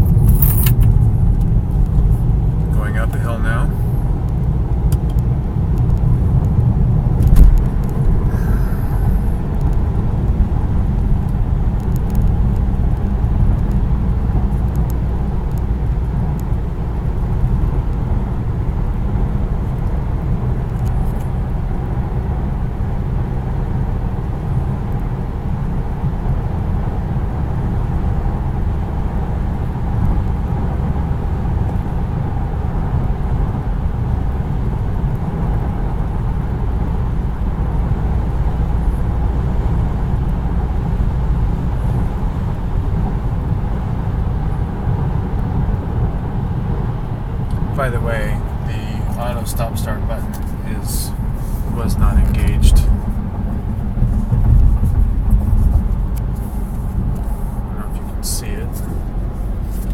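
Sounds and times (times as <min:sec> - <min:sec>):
car engine rumble: 0:00.0 - 0:59.9
road noise inside car: 0:00.0 - 0:59.9.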